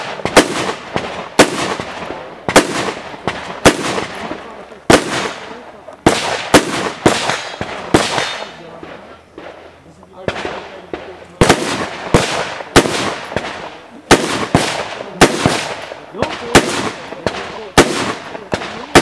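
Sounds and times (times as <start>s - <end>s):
rifle shots with echo: 0.0s - 19.0s.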